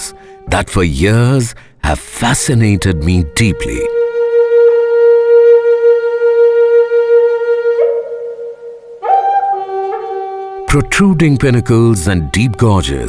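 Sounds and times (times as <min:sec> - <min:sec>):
background music held notes: 0:00.0 - 0:13.0.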